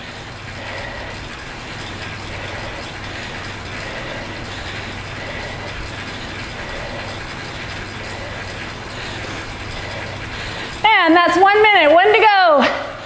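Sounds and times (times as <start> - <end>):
bike trainer whirring: 0.0 - 13.0.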